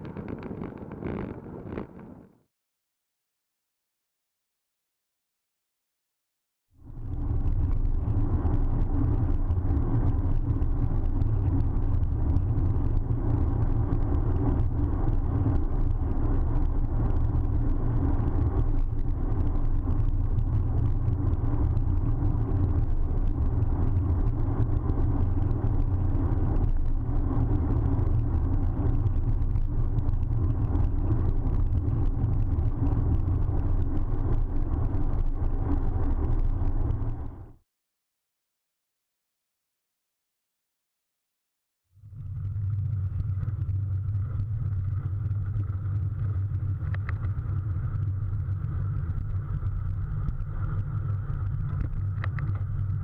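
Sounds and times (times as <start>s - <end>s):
bicycle tyres rolling on tarmac: 0.0s - 2.4s, 6.9s - 37.6s, 42.1s - 53.0s.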